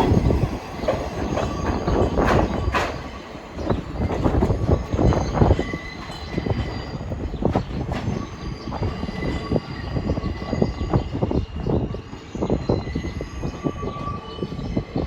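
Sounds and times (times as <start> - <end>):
subway train wheels clattering: 0.0 - 15.0.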